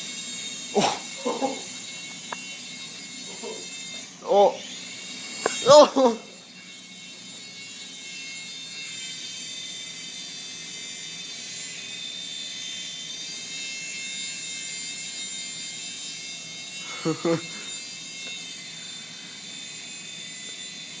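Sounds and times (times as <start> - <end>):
toy helicopter motor whine: 0.0 - 21.0.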